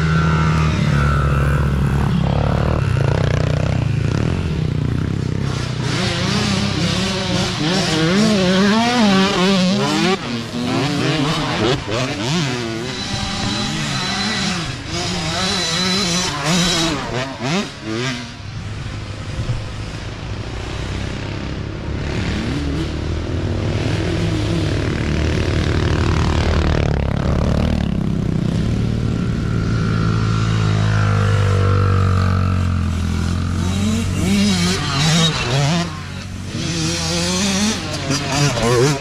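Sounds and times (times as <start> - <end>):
dirt bike engines revving: 0.0 - 39.0
mini dirt bike engine droning: 0.0 - 39.0.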